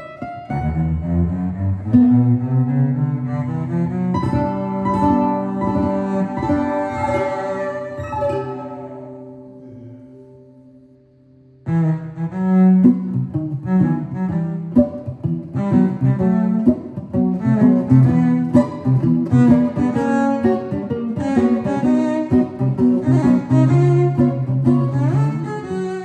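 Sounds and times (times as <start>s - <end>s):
cello bowing low lines: 0.0s - 11.0s, 11.6s - 26.0s
plucked string instrument notes: 0.0s - 26.0s.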